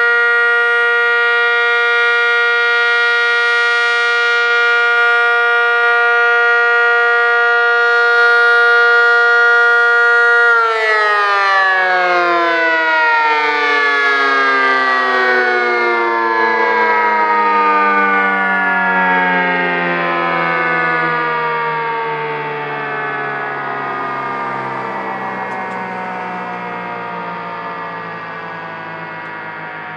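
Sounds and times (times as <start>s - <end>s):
two-tone warning siren: 0.0s - 29.9s.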